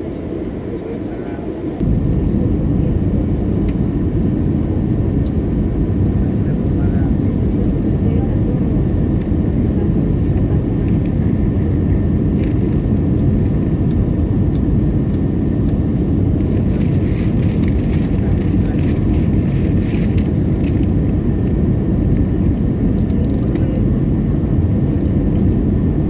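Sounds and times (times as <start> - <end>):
aircraft engine and airflow roar: 0.0 - 26.0.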